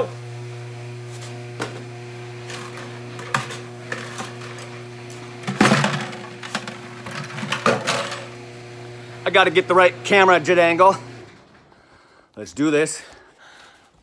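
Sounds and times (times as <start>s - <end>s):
garage door opener hum: 0.0s - 11.9s.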